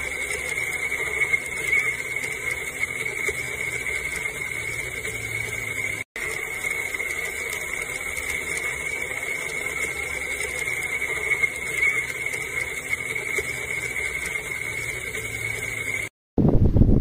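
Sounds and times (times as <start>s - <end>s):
blender motor whining: 0.0s - 16.1s.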